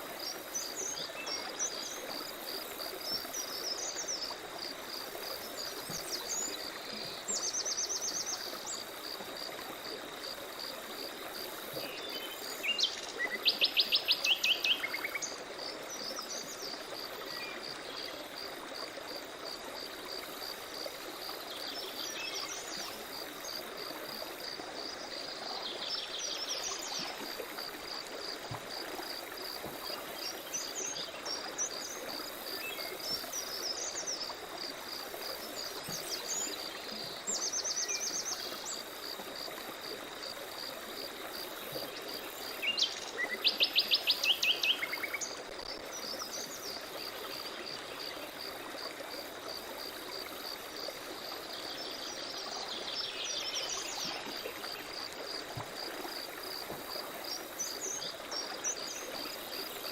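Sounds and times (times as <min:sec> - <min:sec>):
running stream: 0:00.0 - 0:59.9.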